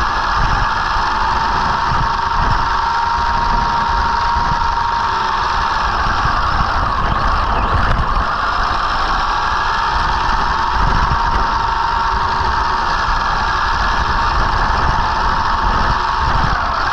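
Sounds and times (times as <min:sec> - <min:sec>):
rc truck motor whine: 0:00.0 - 0:16.9
steady rush of noise: 0:00.0 - 0:16.9.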